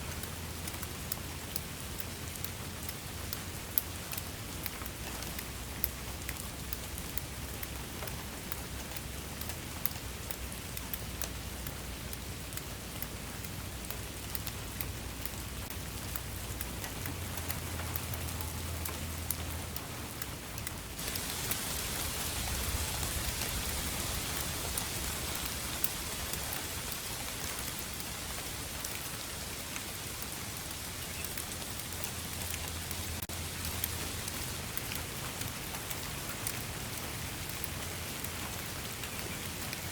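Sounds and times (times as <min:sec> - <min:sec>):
rain hiss: 0:00.0 - 0:39.9
raindrops ticking: 0:00.0 - 0:39.9.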